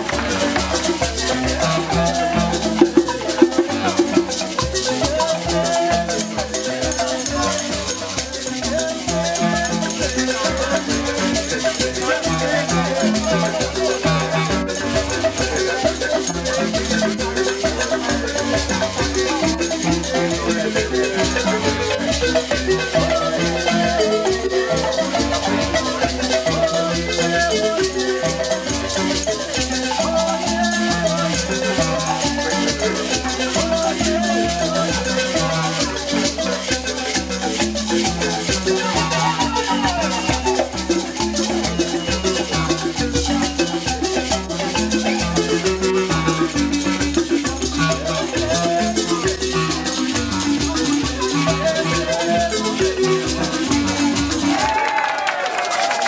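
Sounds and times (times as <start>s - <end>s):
hand drum: 0.0s - 56.0s
marimba ensemble playing: 0.0s - 56.0s
rattling shaker: 0.0s - 56.0s.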